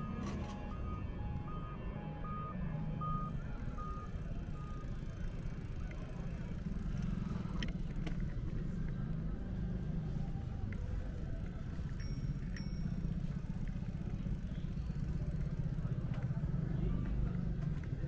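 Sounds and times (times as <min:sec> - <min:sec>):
passing road vehicles rumble: 0:00.0 - 0:18.0.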